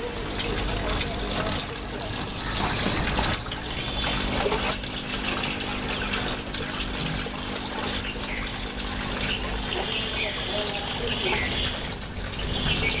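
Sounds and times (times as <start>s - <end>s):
low machine hum: 0.0s - 13.0s
water gushing and splashing: 0.0s - 13.0s.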